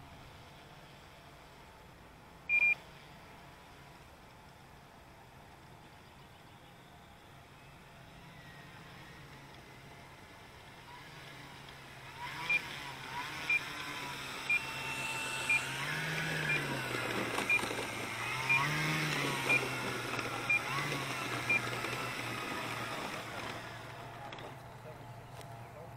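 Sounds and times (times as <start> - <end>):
model airplane engine running: 2.8 - 25.9.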